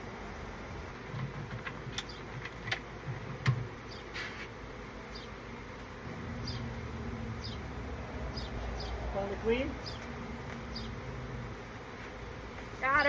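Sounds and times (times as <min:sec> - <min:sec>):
honeybee swarm buzzing: 0:00.0 - 0:13.0.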